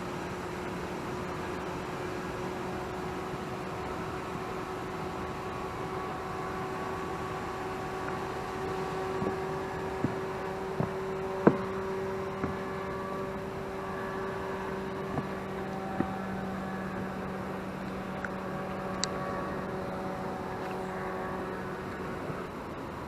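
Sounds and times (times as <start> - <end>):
small plane engine humming: 0.0 - 23.0.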